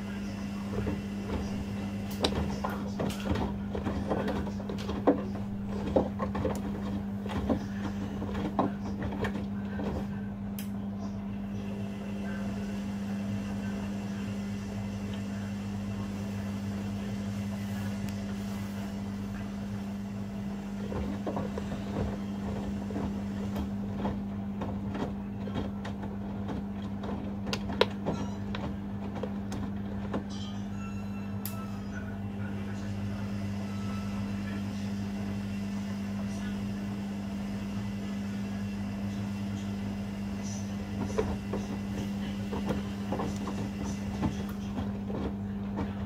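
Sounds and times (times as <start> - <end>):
washing machine humming: 0.0 - 46.0.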